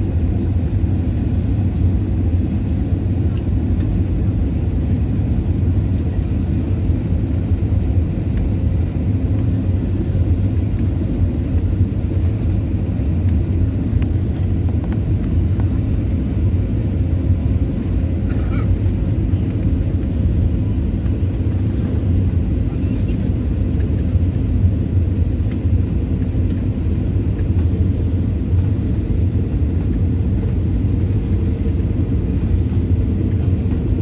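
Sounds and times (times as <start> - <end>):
airliner cabin engine rumble: 0.0 - 34.0.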